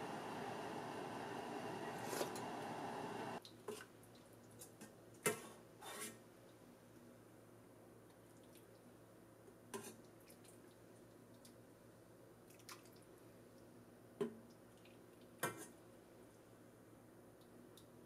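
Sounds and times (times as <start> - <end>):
soft wet soup sounds: 1.5 - 7.2, 7.9 - 18.0.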